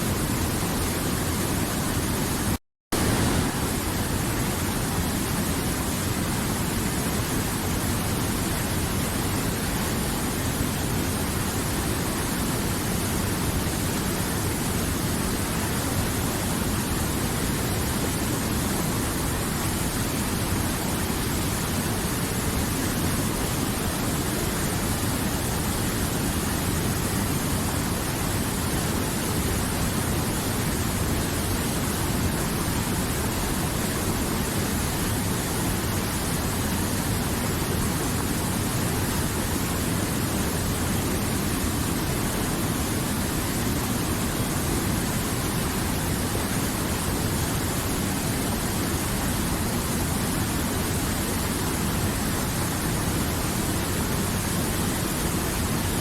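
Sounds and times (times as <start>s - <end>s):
river water flowing: 3.0s - 56.0s.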